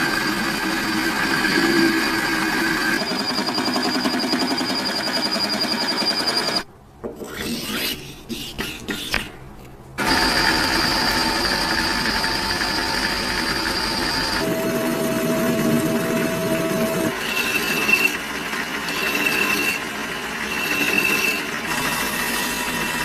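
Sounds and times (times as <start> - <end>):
power tool whining: 0.0 - 6.6, 10.0 - 23.0.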